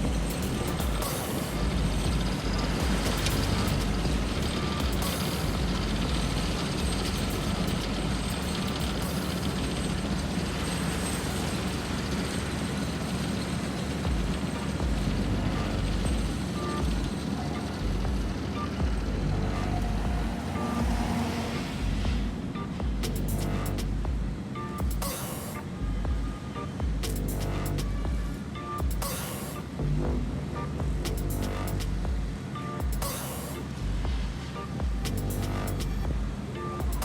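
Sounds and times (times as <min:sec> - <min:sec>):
reversing alarm beeps: 0:00.0 - 0:12.4, 0:13.9 - 0:24.0, 0:24.6 - 0:37.0
heavy diesel machinery running: 0:00.0 - 0:37.0.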